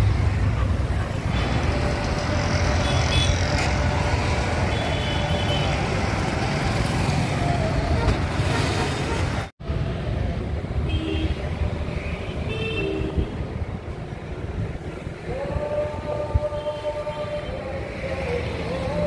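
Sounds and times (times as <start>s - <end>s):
cars and motorcycles passing: 0.0s - 19.0s.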